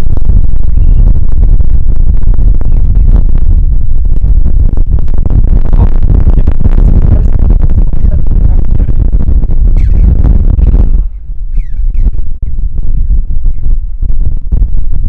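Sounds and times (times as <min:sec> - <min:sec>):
heavy wind buffeting microphone: 0:00.0 - 0:15.0.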